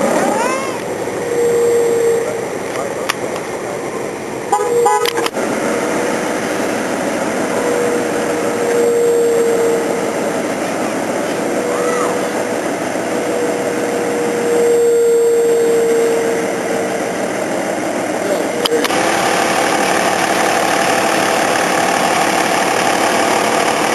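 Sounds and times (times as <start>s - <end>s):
engine drone with whine: 0.0s - 23.9s.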